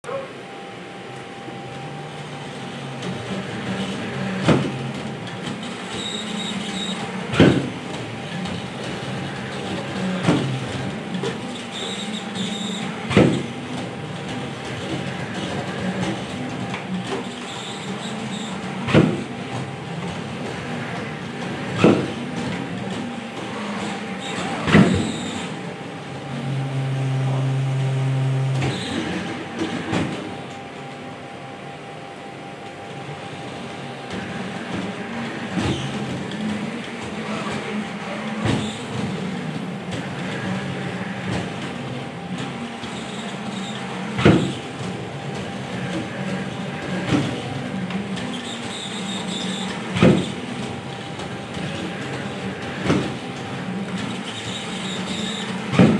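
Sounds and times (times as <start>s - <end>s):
faint machine hum: 0.0s - 55.9s.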